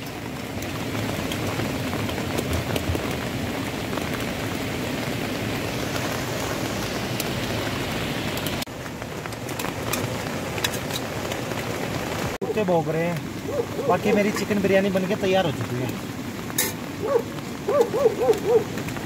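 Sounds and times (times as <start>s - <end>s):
rain on tent fabric: 0.0s - 19.0s.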